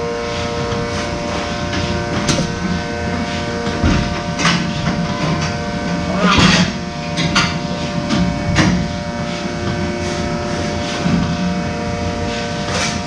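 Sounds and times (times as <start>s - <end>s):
milking equipment humming: 0.0s - 13.0s.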